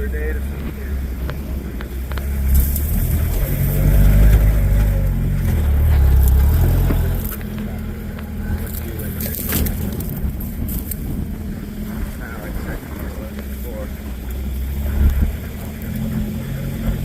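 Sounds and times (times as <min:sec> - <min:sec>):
engine running under load: 0:00.0 - 0:17.0.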